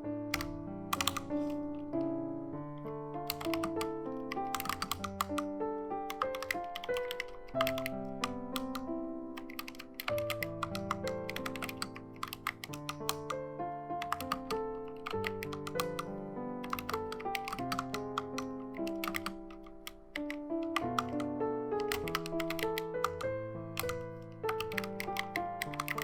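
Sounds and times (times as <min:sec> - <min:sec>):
mechanical keyboard typing clicks: 0:00.3 - 0:02.0, 0:02.8 - 0:13.4, 0:14.0 - 0:26.0.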